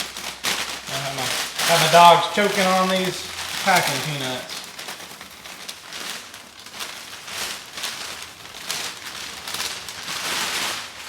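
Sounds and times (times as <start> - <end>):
hands rustling packing peanuts: 0.0 - 11.0.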